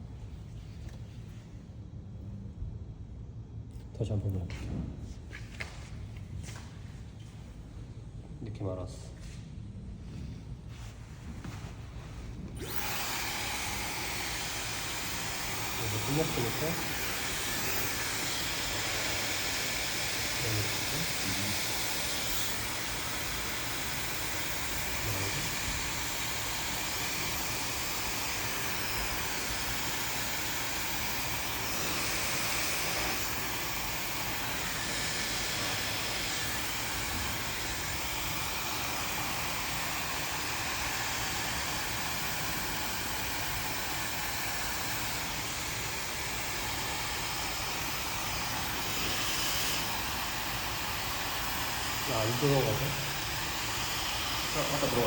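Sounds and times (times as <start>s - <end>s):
hair dryer blowing: 10.8s - 55.0s.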